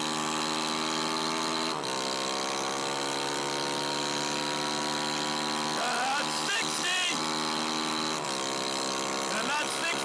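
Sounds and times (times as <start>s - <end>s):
toy car engine revving high: 0.0s - 10.0s.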